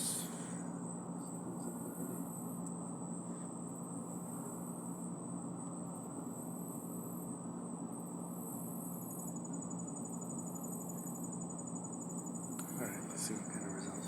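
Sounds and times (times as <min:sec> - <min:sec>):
high-pitched whine: 0:00.0 - 0:14.0
insects trilling: 0:00.0 - 0:14.0
low background hum: 0:00.0 - 0:14.0.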